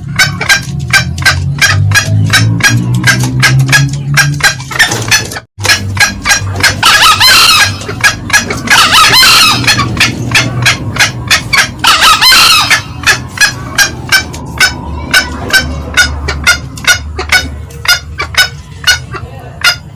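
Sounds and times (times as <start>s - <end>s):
junglefowl clucking cackles: 0.0s - 19.9s
junglefowl crowing: 0.0s - 19.9s.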